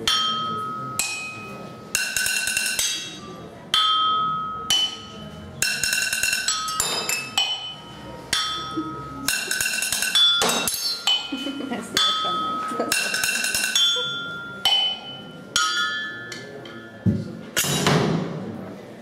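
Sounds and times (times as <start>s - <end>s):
drumsticks clinking on porcelain: 0.1s - 17.0s.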